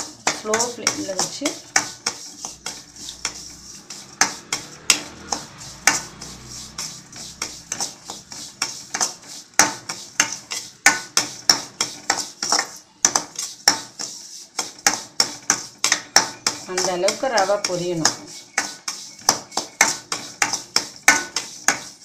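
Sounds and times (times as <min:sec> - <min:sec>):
spoon scraping a steel pan: 0:00.0 - 0:22.0.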